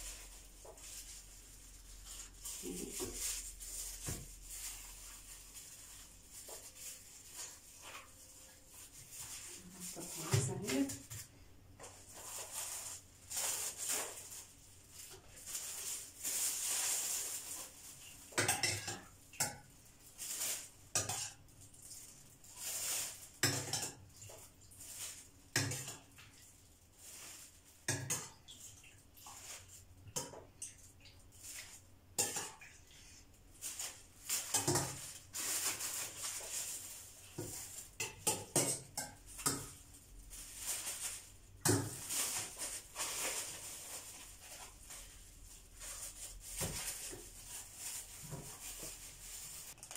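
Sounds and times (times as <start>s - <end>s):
plastic bag crinkling: 0.0s - 19.1s, 19.7s - 23.6s, 24.2s - 30.0s, 33.4s - 49.9s.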